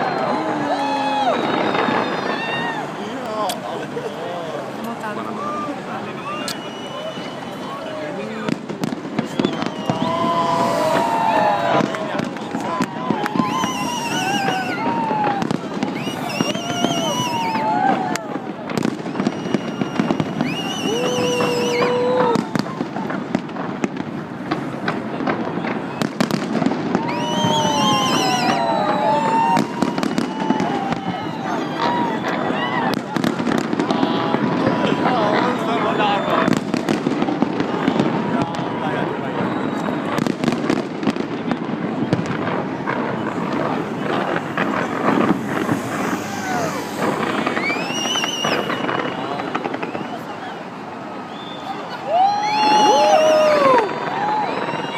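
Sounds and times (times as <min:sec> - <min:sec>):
crowd voices: 0:00.0 - 0:54.9
fireworks popping and crackling: 0:00.0 - 0:54.9
whistling fireworks: 0:00.0 - 0:54.9.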